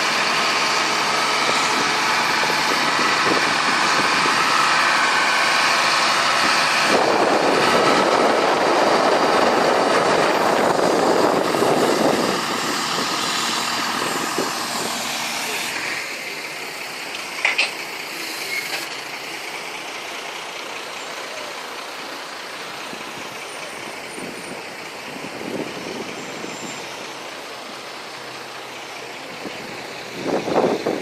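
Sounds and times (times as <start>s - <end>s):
ship engine running: 0.0s - 31.0s.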